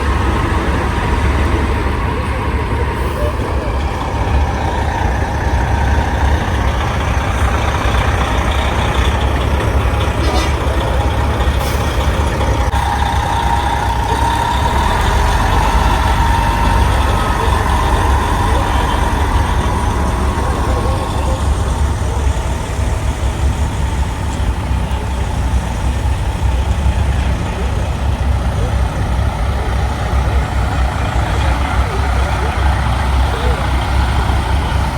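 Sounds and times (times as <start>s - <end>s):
truck diesel engines rumbling: 0.0s - 34.9s.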